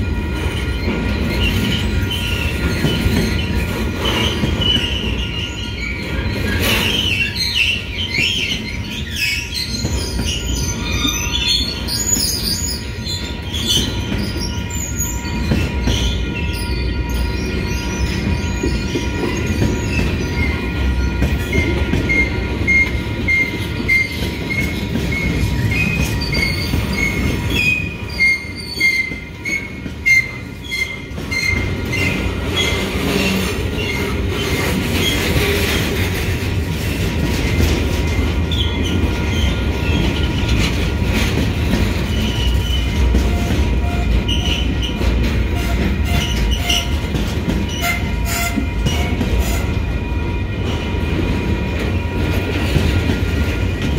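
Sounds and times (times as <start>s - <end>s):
clickety-clack over rails: 0.0s - 53.9s
crossing warning bell dinging: 0.0s - 53.9s
train clanks: 0.0s - 53.9s
train wheels rumbling: 0.0s - 53.9s
wheel squeal: 0.6s - 20.8s, 21.4s - 35.8s, 37.3s - 49.8s.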